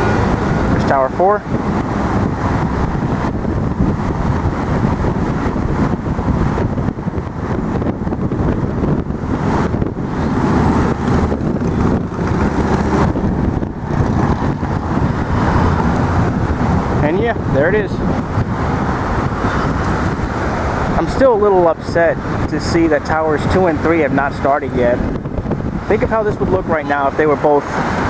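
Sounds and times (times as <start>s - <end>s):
city street traffic rumble: 0.0s - 28.0s
wind buffeting microphone: 0.0s - 28.0s.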